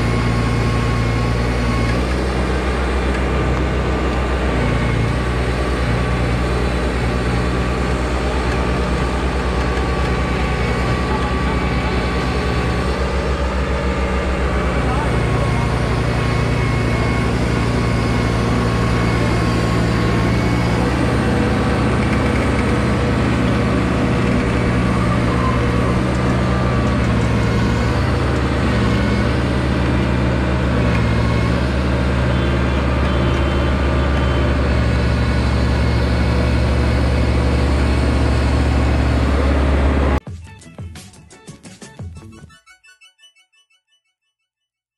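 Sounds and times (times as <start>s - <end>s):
diesel engine running: 0.0s - 40.2s.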